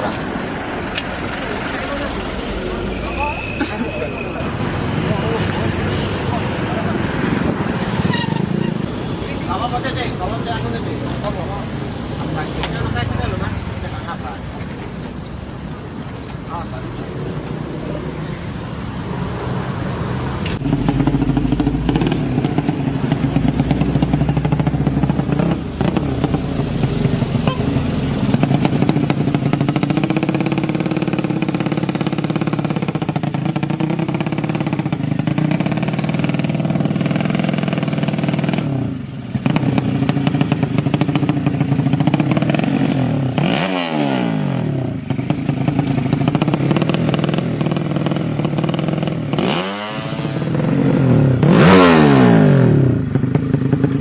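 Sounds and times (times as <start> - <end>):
motorcycles revving: 0.0 - 54.0.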